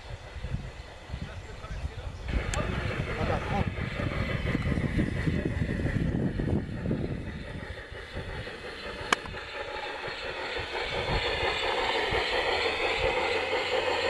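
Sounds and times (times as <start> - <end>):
model train rolling rumble: 0.0 - 14.0.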